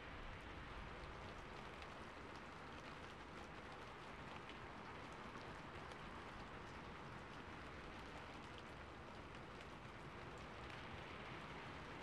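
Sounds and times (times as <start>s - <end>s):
rain on a rooftop: 0.0s - 12.0s
raindrop ticks: 0.0s - 12.0s.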